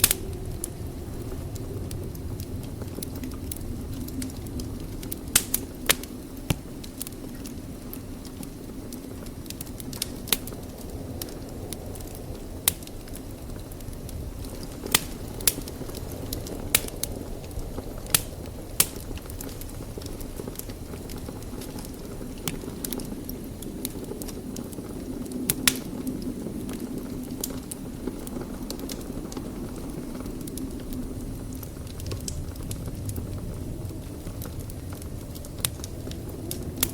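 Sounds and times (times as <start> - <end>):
fire flames rumbling: 0.0 - 36.9
wood fire crackling and popping: 0.0 - 36.9.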